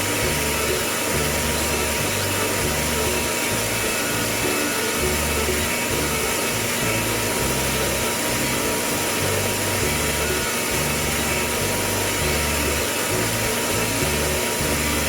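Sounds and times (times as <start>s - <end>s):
low bass notes: 0.0s - 15.0s
whirring hissing noise: 0.0s - 15.0s.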